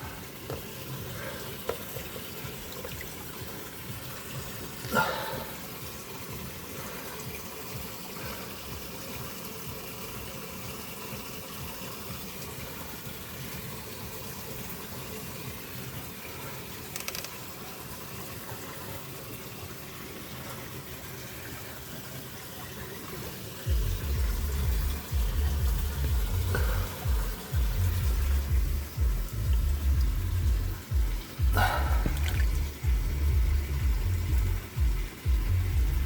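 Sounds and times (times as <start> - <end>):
water rushing down waterfall: 0.0 - 36.0.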